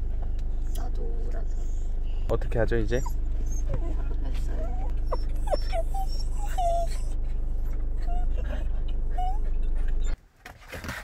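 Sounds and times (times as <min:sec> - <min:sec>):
car engine hum: 0:00.0 - 0:10.2
dog whimpering: 0:00.7 - 0:10.2.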